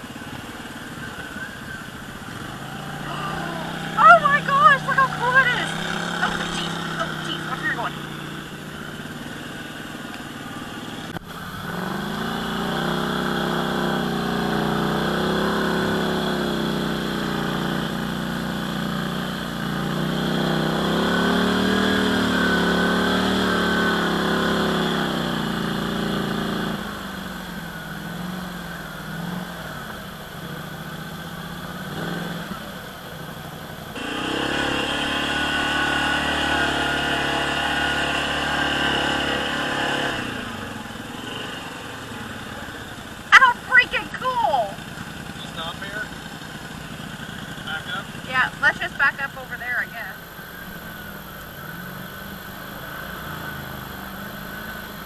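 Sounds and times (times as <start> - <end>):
atv engine under throttle: 0.0 - 55.0.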